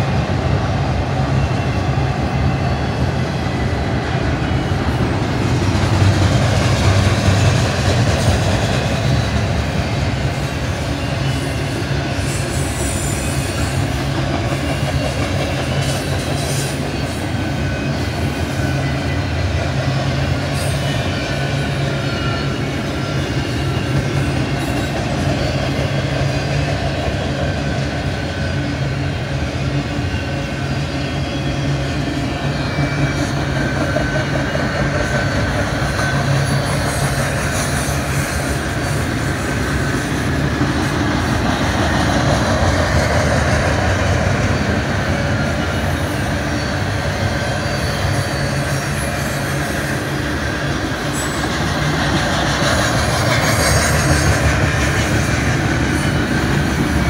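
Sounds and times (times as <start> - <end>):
train wheels rumbling on rails: 0.0 - 57.0
faint high wheel squeal: 0.9 - 5.4, 6.0 - 57.0.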